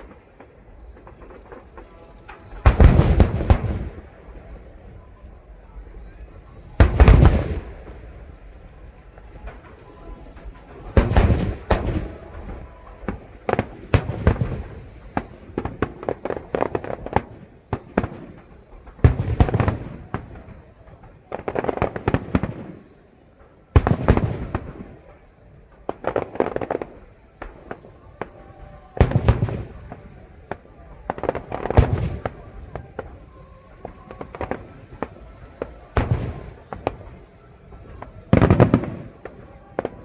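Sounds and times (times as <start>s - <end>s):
fireworks deep booms: 0.0s - 40.0s
fireworks sharp bangs and crackles: 0.0s - 40.0s.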